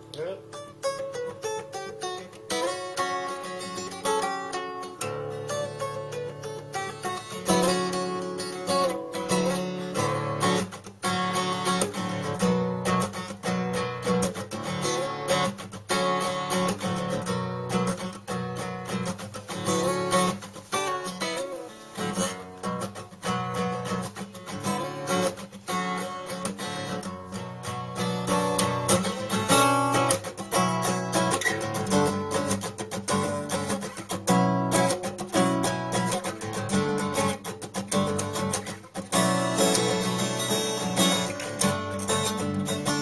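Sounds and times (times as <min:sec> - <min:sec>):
acoustic guitar strummed and plucked: 0:00.0 - 0:43.0.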